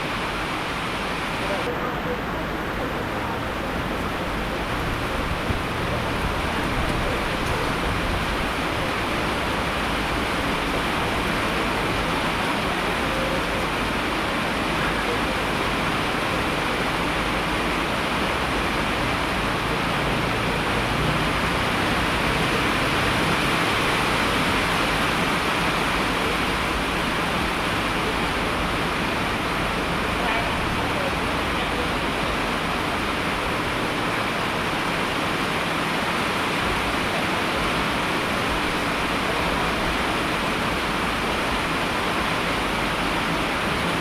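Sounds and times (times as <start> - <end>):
rushing falling water: 0.0 - 44.0.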